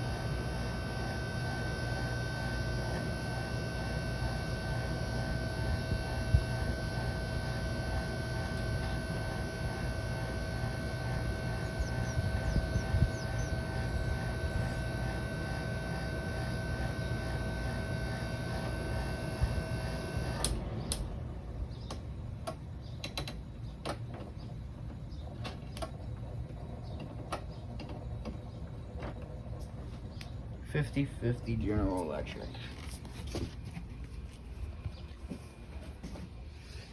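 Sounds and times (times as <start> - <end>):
air conditioner humming and whining: 0.0 - 36.9.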